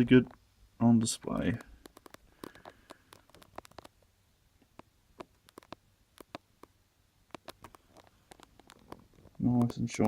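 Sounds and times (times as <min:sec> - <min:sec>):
handling clicks and taps: 0:01.3 - 0:04.0, 0:04.6 - 0:10.0.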